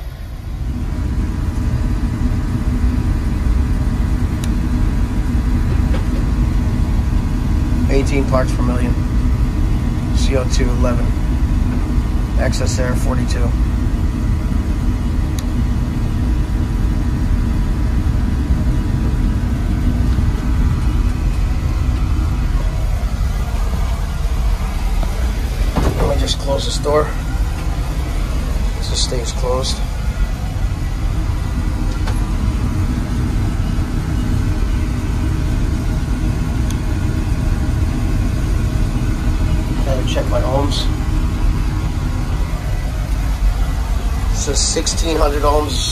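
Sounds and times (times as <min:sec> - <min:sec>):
oil burner rumbling: 0:00.0 - 0:45.9.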